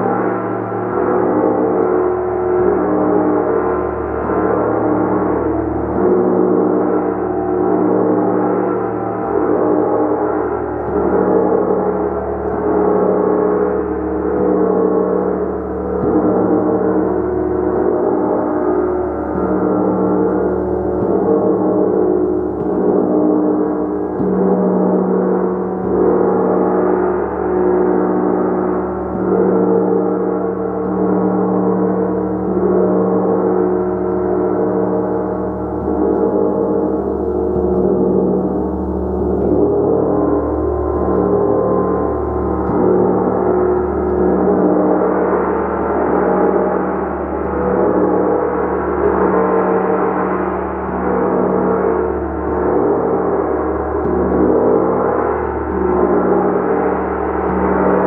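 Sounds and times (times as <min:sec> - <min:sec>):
gong played with mallet: 0:00.0 - 0:58.0.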